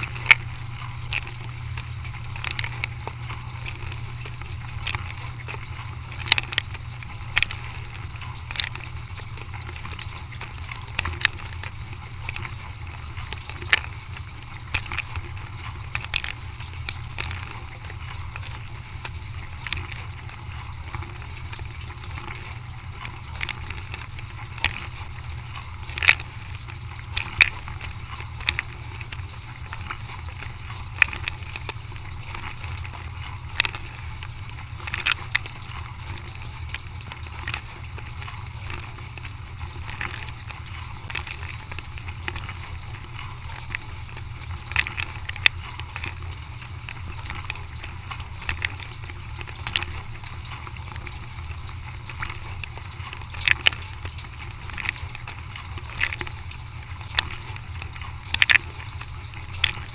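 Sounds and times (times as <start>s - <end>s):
dishwasher hum: 0.0s - 59.9s.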